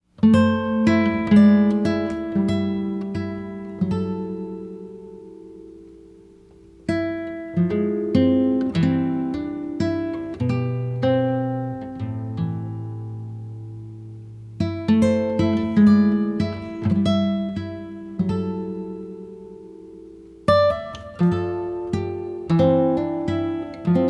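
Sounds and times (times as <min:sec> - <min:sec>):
acoustic guitar plucked notes: 0:00.2 - 0:24.0.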